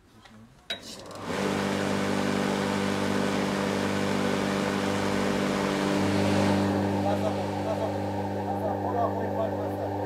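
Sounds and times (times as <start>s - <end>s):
electric lawn mower motor humming: 1.1s - 10.0s.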